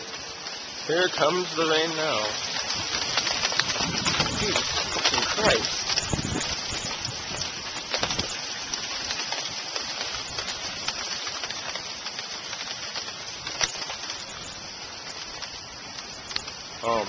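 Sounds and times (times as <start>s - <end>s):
heavy rain pouring: 0.0s - 17.0s
raindrops ticking close by: 0.0s - 17.0s.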